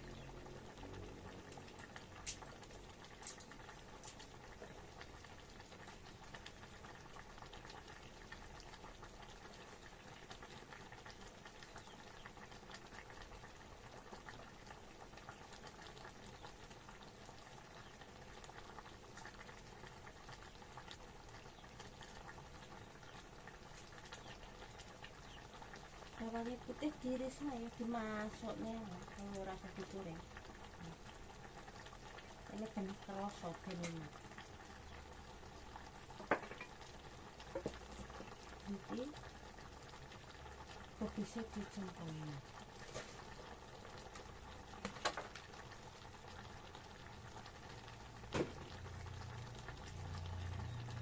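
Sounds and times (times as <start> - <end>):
pot bubbling on stove: 0.0 - 51.0.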